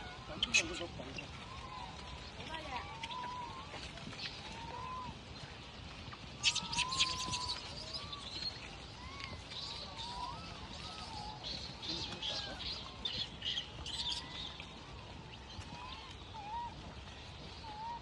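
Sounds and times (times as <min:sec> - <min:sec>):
macaques chirping and cooing: 0:00.0 - 0:05.3, 0:06.4 - 0:18.0.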